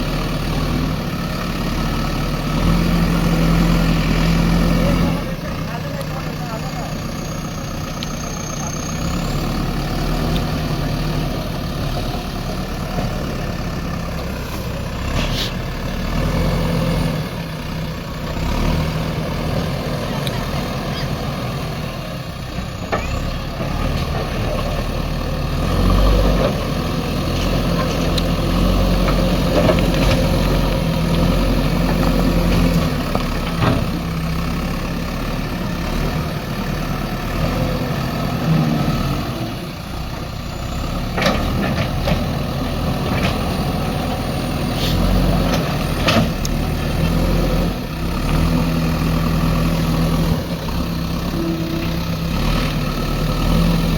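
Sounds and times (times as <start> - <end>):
heavy diesel machinery engine: 0.0 - 53.9.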